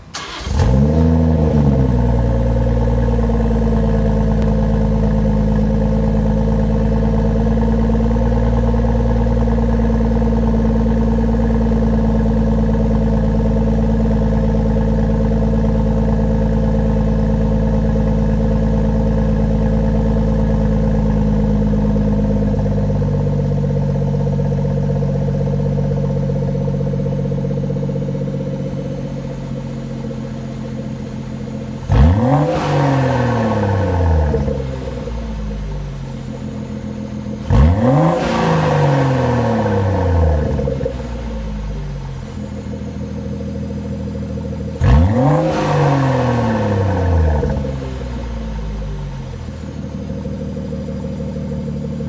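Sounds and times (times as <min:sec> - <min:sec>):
car engine starting and idling: 0:00.0 - 0:52.0.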